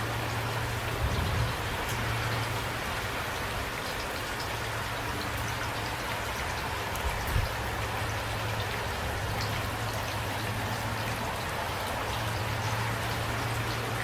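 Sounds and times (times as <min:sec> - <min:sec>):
raindrops ticking: 0:00.0 - 0:14.0
steady rain falling: 0:00.0 - 0:14.0.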